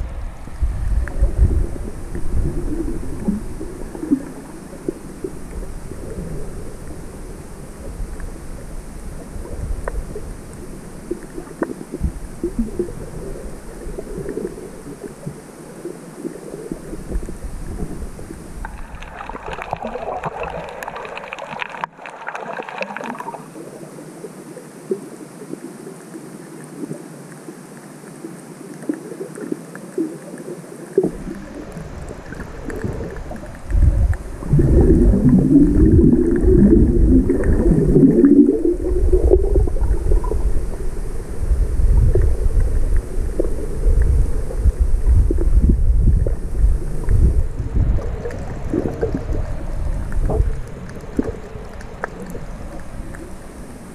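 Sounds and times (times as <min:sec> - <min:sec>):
muffled underwater gurgling: 0:00.0 - 0:27.1, 0:28.7 - 0:53.9.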